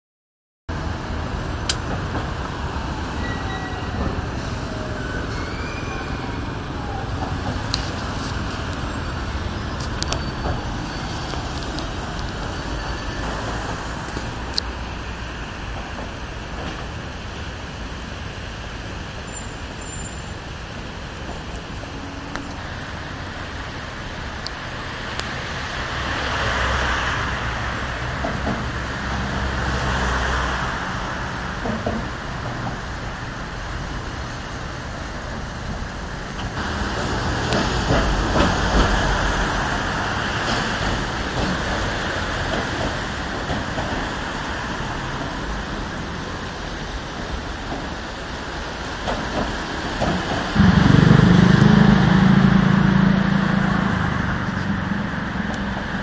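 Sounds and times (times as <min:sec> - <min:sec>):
passing road traffic: 0:00.7 - 0:56.0.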